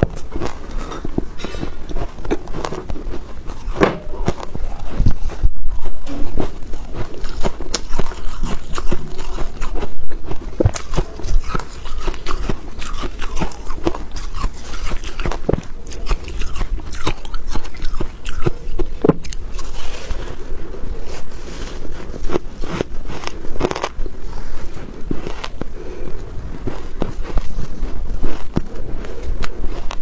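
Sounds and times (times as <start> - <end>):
crunching and chewing ice: 0.0 - 30.0.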